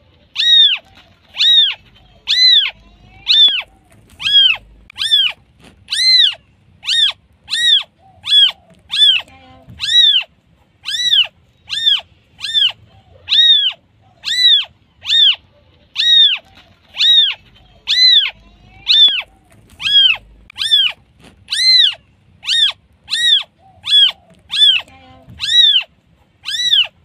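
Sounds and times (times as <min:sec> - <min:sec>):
kitten mewing: 0:00.4 - 0:27.0.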